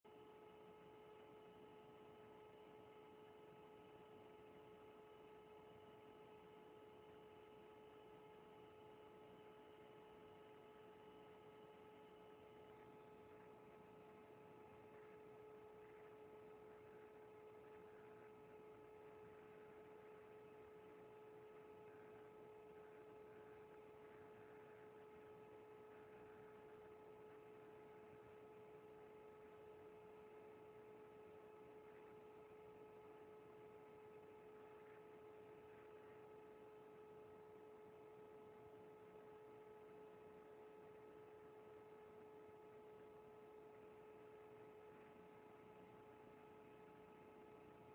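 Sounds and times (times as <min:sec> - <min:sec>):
faint electrical hum: 0:00.1 - 0:47.9.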